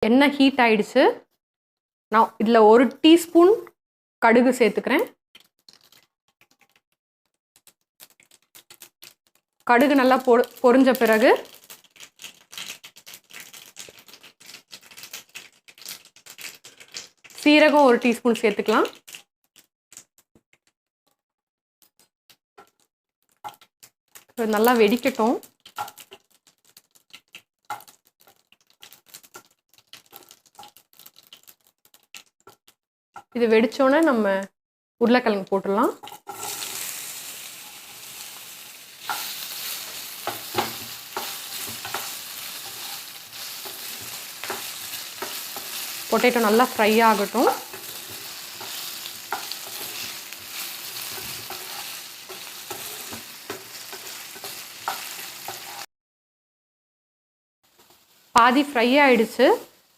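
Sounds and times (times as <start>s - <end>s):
seeds crackling in hot oil: 4.8s - 20.5s, 21.9s - 34.3s, 35.2s - 55.9s, 57.7s - 59.9s.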